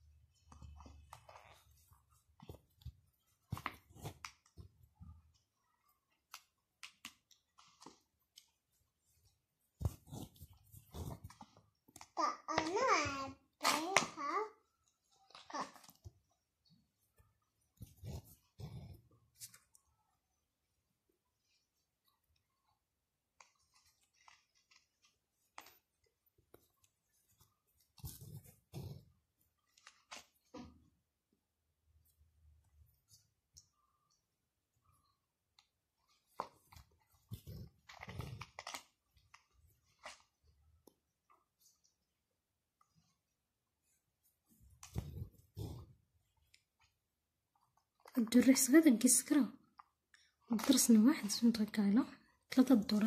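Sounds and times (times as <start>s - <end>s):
needle and thread through fabric: 0.0s - 20.3s, 21.0s - 53.0s.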